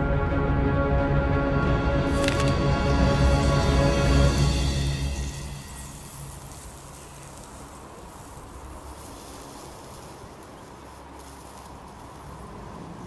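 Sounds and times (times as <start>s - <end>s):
outdoor nature ambience hiss: 2.1s - 13.0s.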